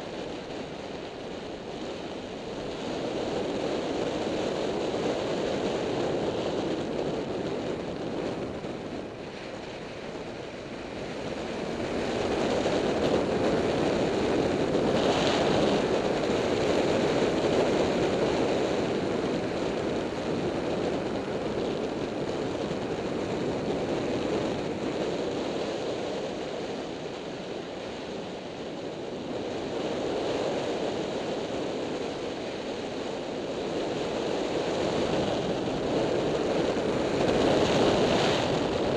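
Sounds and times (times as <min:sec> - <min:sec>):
motorcycle road and engine noise: 0:00.0 - 0:38.9
wind rushing over microphone: 0:00.0 - 0:38.9.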